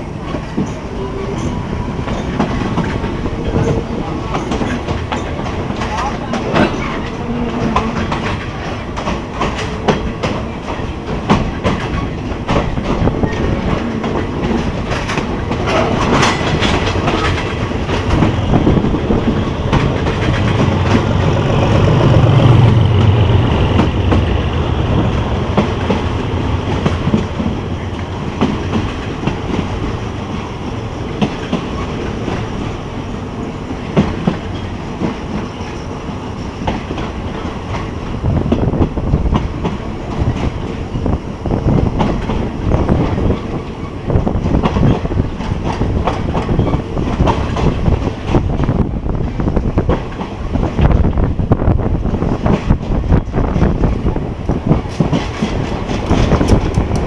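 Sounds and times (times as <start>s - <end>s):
train low rumble: 0.0s - 57.0s
train wheels clacking: 0.0s - 57.0s.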